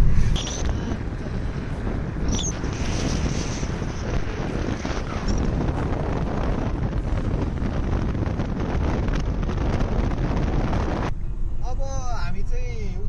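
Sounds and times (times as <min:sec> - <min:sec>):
car driving rumble: 0:00.0 - 0:13.0
wind buffeting microphone: 0:00.0 - 0:13.0.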